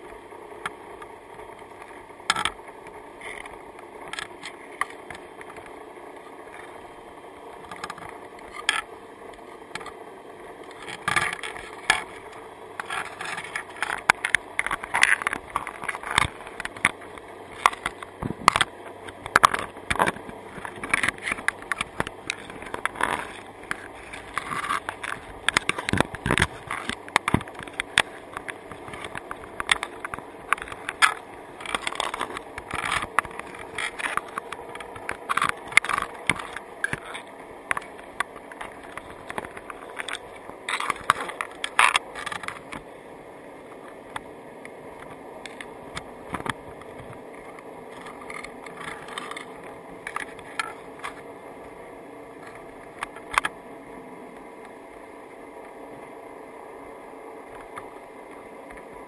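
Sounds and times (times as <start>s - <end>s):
crab shells clicking underwater: 0.1s - 6.9s, 7.5s - 42.9s, 43.8s - 51.8s, 52.4s - 53.6s.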